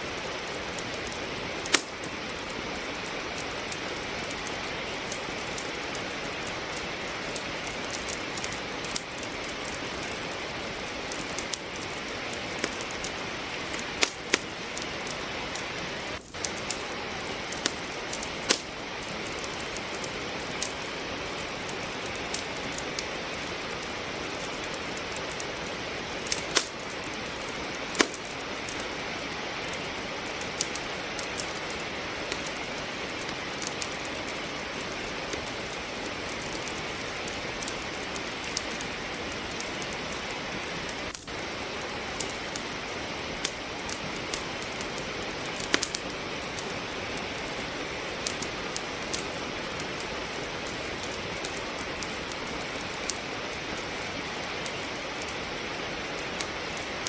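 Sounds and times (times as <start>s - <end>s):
rain falling: 0.0s - 57.0s
wood fire crackling: 0.0s - 57.0s.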